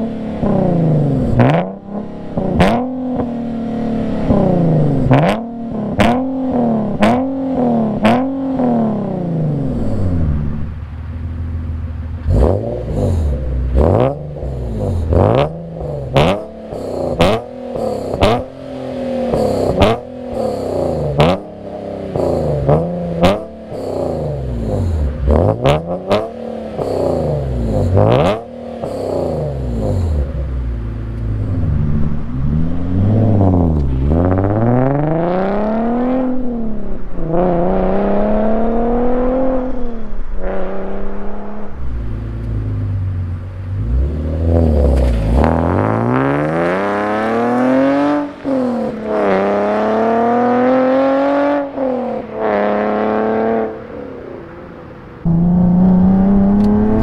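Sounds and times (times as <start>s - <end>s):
car engine revving with pops: 0.0s - 57.0s.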